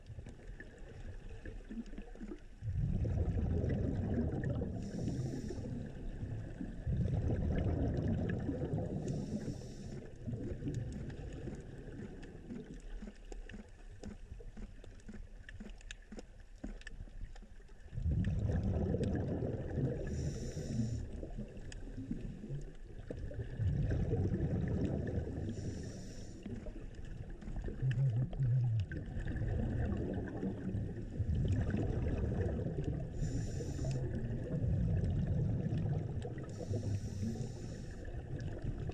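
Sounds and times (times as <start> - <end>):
underwater rumbling wash: 0.0 - 12.9, 17.8 - 38.9.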